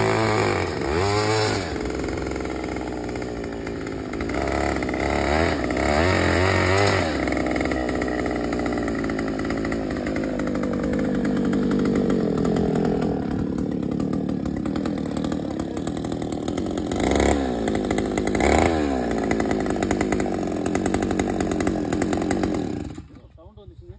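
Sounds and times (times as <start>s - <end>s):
engine revving: 0.0s - 23.2s
two-stroke auger engine running: 0.0s - 23.9s.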